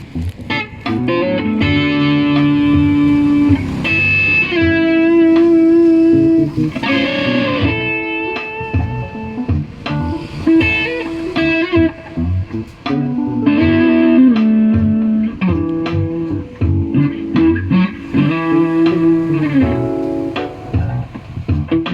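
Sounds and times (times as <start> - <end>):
electric guitar melody: 0.0 - 21.9.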